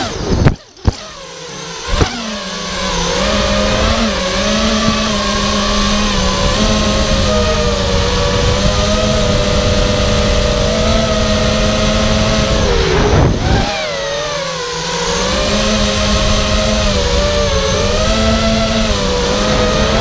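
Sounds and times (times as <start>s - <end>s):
quadcopter motors whining: 0.0s - 20.0s
wind buffeting: 2.7s - 20.0s.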